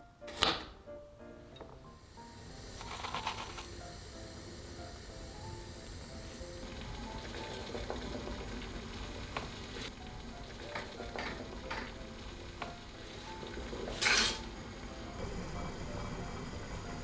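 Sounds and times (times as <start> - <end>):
food sizzling in a frying pan: 1.7 - 17.0.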